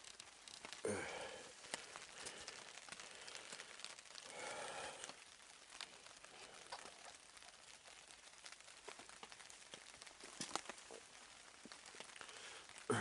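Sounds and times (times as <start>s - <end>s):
drips ticking: 0.0s - 13.0s
rain falling through trees: 0.0s - 13.0s.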